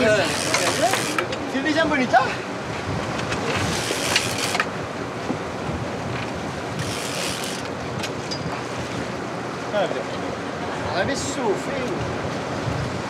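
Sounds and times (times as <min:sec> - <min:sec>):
wind buffeting microphone: 0:00.0 - 0:09.3, 0:10.8 - 0:13.0
water washing along hull: 0:00.0 - 0:13.0.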